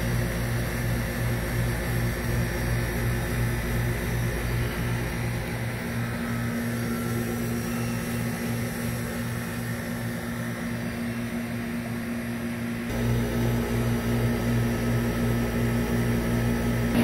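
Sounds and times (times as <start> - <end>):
pulsing machine hum: 0.0 - 17.0.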